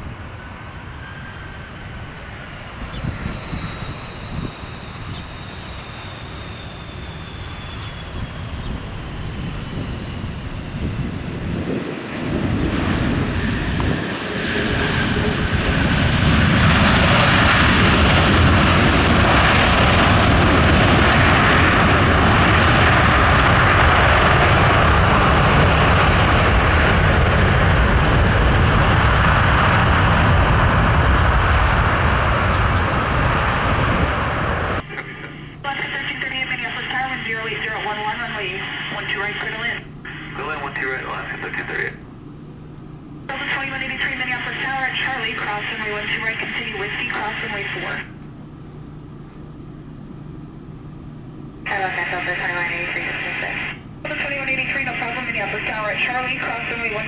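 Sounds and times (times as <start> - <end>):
high jet whine falling in pitch: 0.0 - 57.0
jet engines roaring: 0.0 - 57.0.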